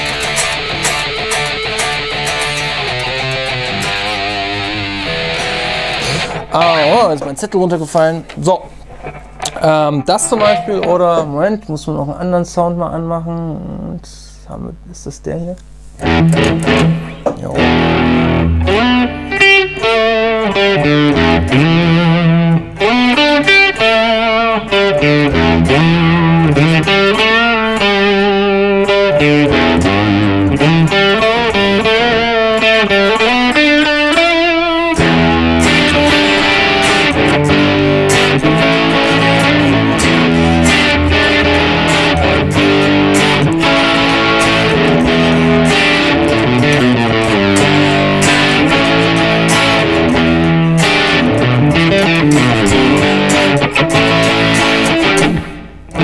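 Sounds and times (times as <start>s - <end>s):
electric guitar playing: 0.0s - 12.1s, 15.6s - 56.0s.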